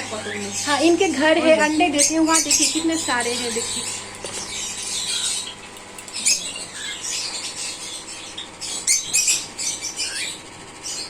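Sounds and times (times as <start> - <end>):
small parrots chirping and squawking: 0.0 - 11.0.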